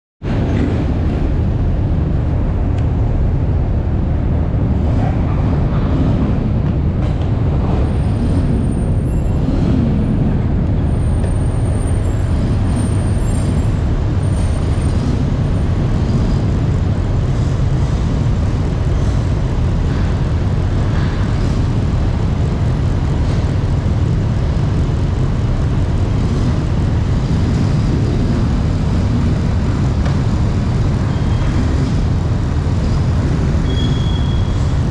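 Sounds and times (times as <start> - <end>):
ship engines rumbling: 0.2 - 34.9.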